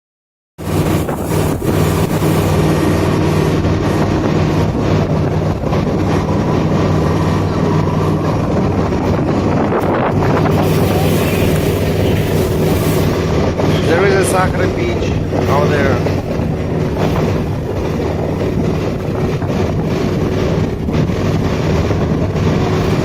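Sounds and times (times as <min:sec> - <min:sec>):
motorboat engine running: 0:00.6 - 0:23.0
wind buffeting microphone: 0:00.6 - 0:23.0.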